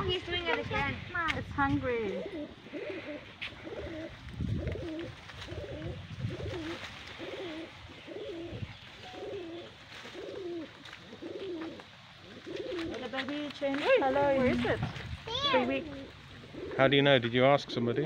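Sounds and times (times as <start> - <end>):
dove cooing: 1.6 - 18.0.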